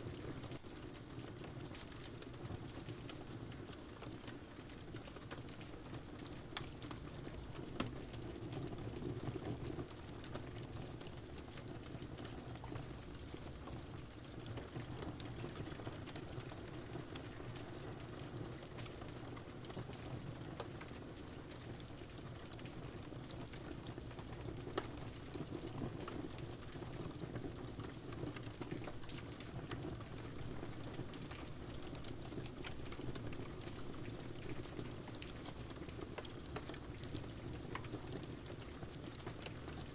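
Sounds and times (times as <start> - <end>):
rain: 0.0 - 39.9.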